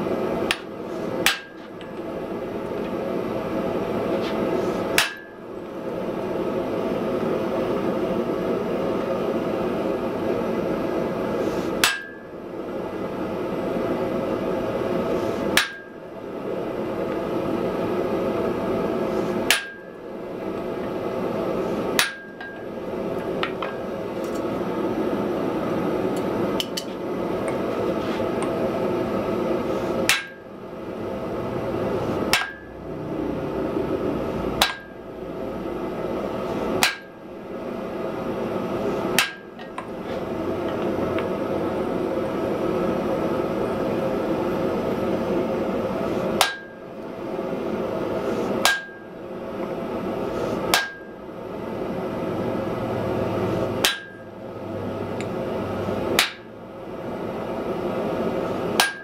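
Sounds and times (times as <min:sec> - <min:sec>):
steady background noise: 0:00.0 - 0:59.0.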